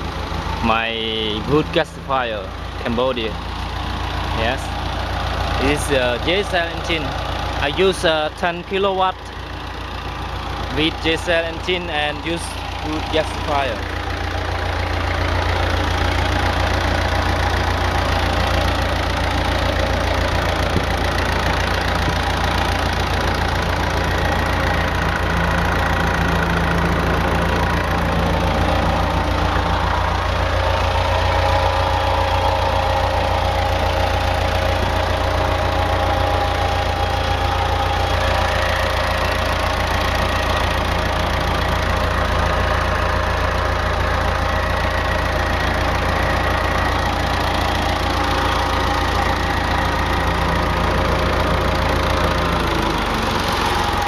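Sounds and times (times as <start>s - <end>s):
diesel generator running: 0.0s - 54.0s.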